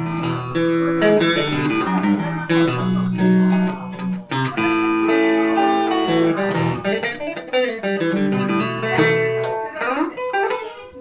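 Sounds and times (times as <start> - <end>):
electric guitar blues playing: 0.0 - 11.0.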